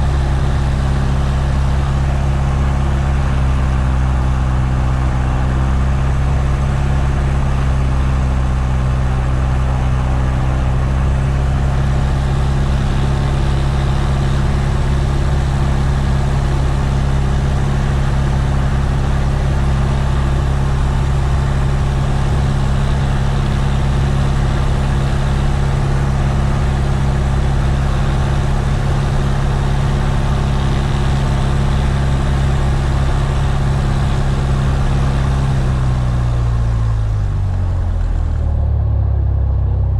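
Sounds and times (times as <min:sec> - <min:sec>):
plane engine and propeller hum: 0:00.0 - 0:39.9.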